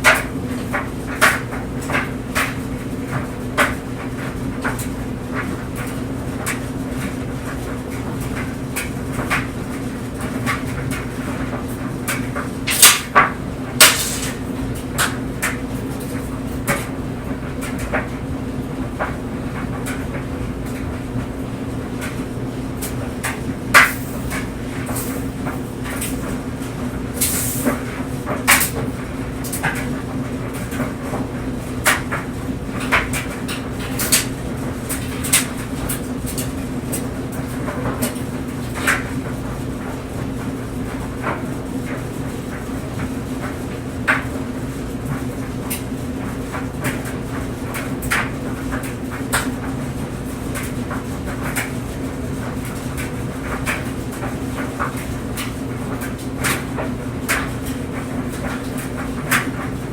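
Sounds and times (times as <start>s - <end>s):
clothes dryer humming: 0.0s - 59.9s.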